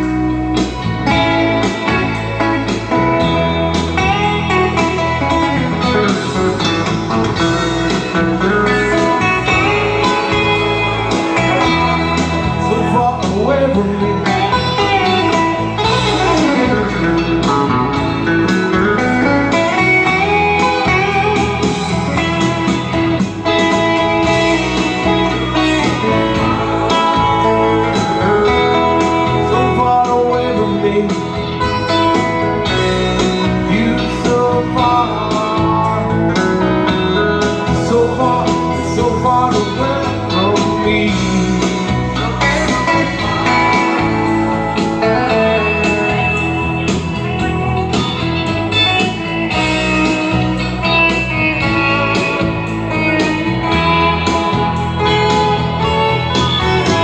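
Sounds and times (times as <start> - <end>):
bass and beat backing: 0.0 - 57.0
electric guitar lead bending notes: 0.0 - 57.0.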